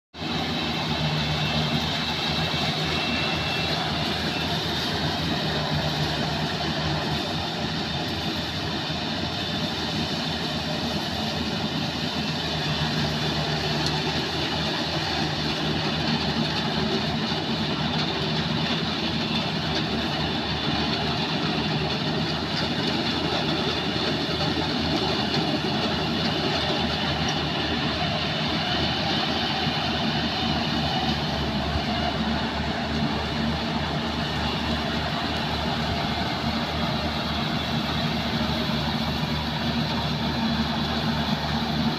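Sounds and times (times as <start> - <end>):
combine harvester engine running: 0.2 - 41.9.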